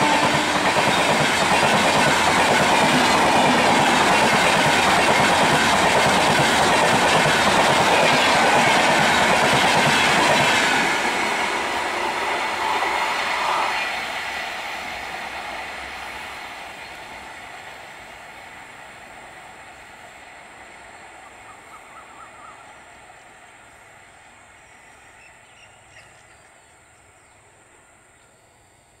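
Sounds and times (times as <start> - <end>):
train wheels rumbling on track: 0.0 - 28.1.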